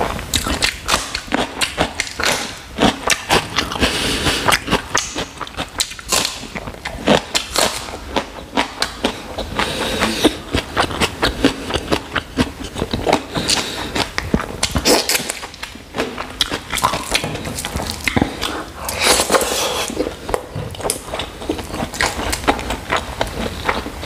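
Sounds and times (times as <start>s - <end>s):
wet chewing and lip-smacking: 0.3s - 24.0s.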